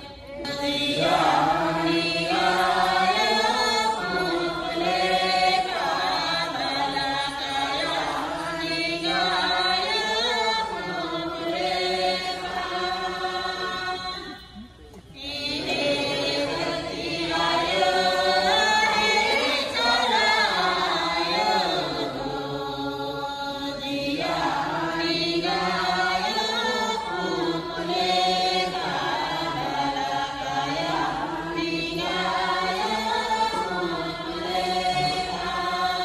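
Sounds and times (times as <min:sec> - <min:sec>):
voices singing a chant: 0:00.0 - 0:36.0.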